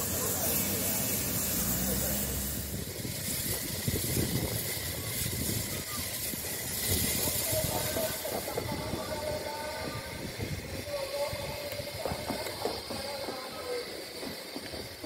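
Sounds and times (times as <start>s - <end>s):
locomotive low rumble: 0.0s - 15.0s
steam hissing: 0.0s - 15.0s.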